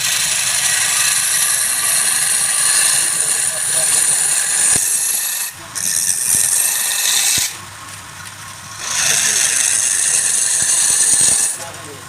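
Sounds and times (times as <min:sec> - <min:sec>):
tool scraping wood on lathe: 0:00.0 - 0:07.6, 0:08.5 - 0:11.8
lathe running hum: 0:00.0 - 0:12.0.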